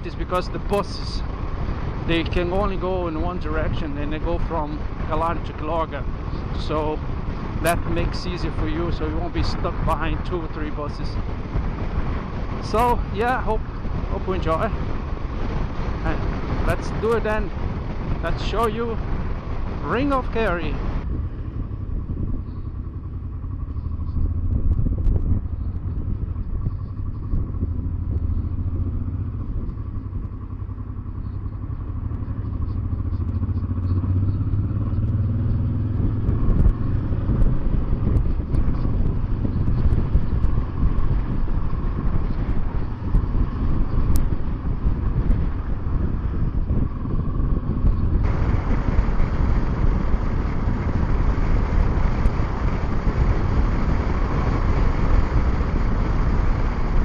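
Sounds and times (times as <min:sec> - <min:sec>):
motorcycle engine running: 0:00.0 - 0:57.0
road and wind rush: 0:00.0 - 0:57.0.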